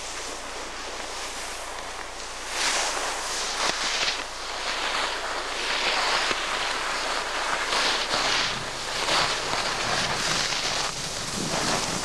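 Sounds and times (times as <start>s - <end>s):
skis scraping over snow: 0.0s - 12.0s.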